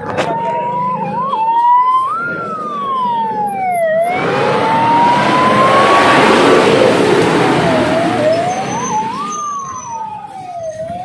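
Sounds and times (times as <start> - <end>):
fire engine siren wailing: 0.0 - 11.0
vehicle engine and tyres: 0.0 - 11.0.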